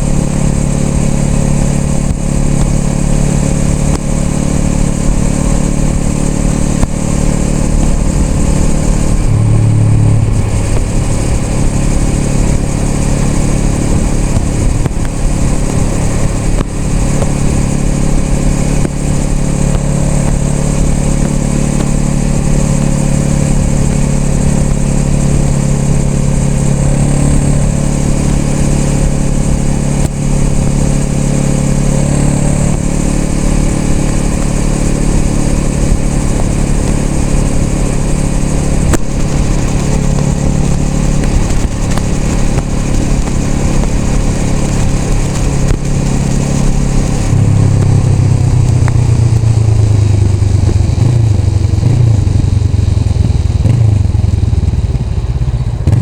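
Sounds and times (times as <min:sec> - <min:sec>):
wind rushing past microphone: 0:00.0 - 0:53.7
motorcycle engine running: 0:00.0 - 0:56.0.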